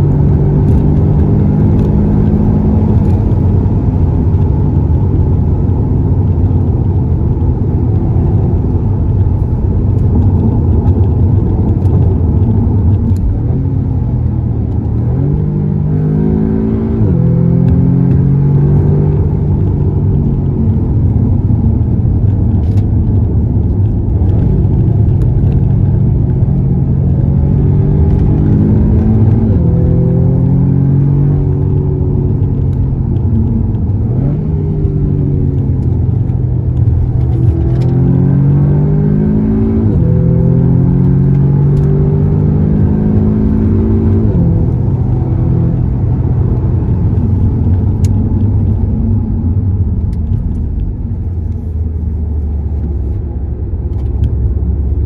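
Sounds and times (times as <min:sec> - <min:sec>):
car engine accelerating: 0:00.0 - 0:55.0
tyre noise on road: 0:00.0 - 0:55.0.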